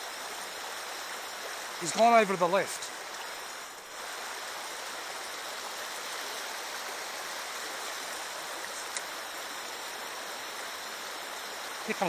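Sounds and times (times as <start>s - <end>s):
creek water running over stones: 0.0s - 12.0s.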